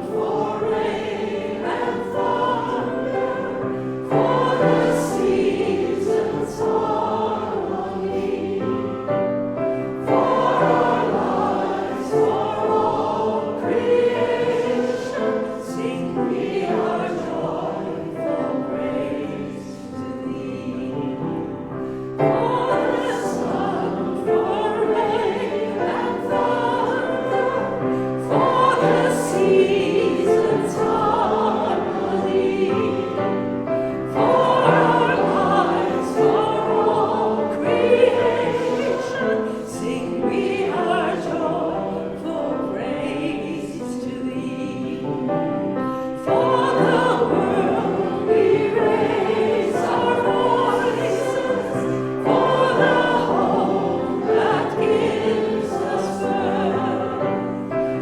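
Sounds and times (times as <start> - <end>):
congregation singing a hymn: 0.0 - 58.0.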